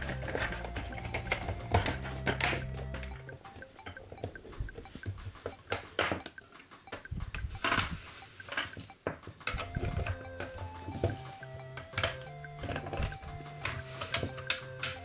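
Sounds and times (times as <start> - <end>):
plastic parts clattering: 0.0 - 3.2, 5.4 - 15.0
background music: 0.0 - 15.0
plastic toy parts clicking: 0.0 - 15.0.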